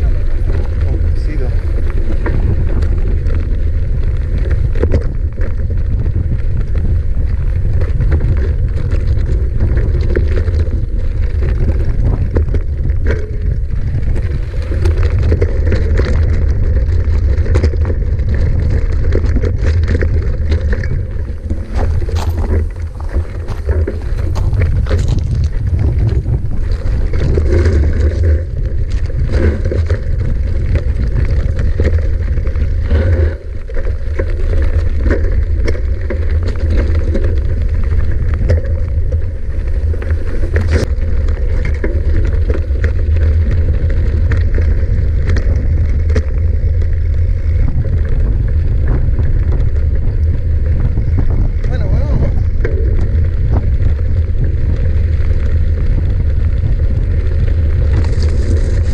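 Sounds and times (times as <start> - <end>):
bike clicks and rattles: 0.0 - 58.9
wind buffeting microphone: 0.0 - 58.9.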